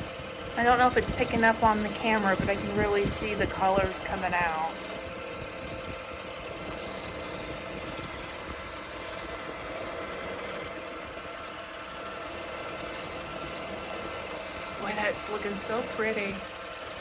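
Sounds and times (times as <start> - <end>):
wood lathe humming: 0.0 - 17.0.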